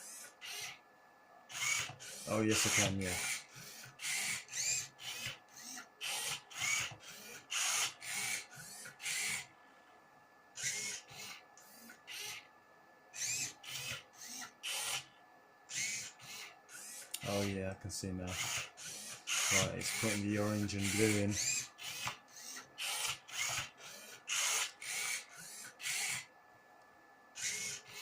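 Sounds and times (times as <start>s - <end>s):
robot motor whirring: 0.0s - 0.8s, 1.5s - 9.5s, 10.6s - 12.4s, 13.2s - 15.1s, 15.7s - 17.5s, 18.2s - 26.3s, 27.4s - 28.0s.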